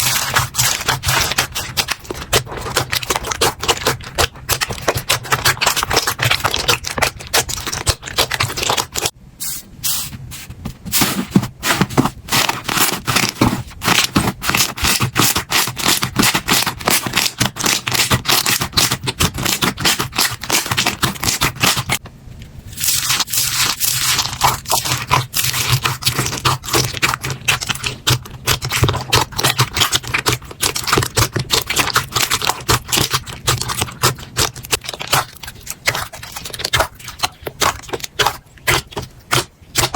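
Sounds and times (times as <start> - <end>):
slime squeezed crackling: 0.0 - 9.1, 12.3 - 22.0, 22.7 - 39.9.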